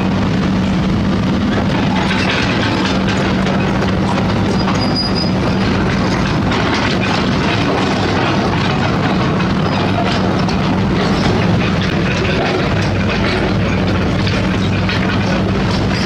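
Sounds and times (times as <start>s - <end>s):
diesel engine drone: 0.0s - 16.0s
metallic clanking and clatter: 0.0s - 16.0s.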